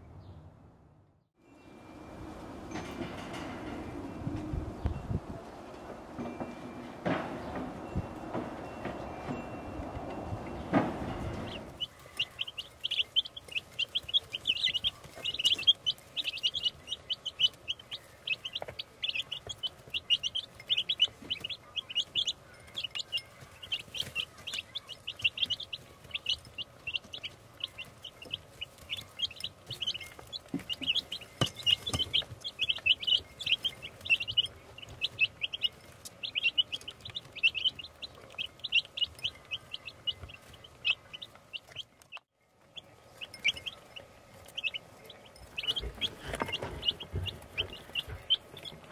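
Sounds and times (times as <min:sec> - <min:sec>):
baby chicks peeping: 0:01.9 - 0:48.9.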